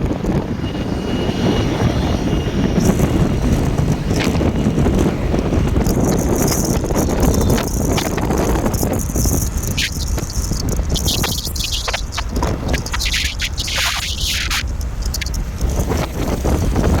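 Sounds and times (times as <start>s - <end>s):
road traffic noise: 0.0s - 17.0s
wind rumble on microphone: 0.0s - 17.0s.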